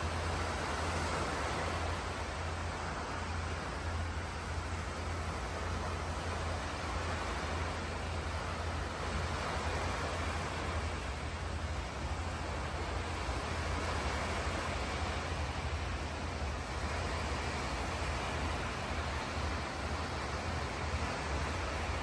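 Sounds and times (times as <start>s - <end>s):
small waves washing onto beach: 0.0s - 22.0s.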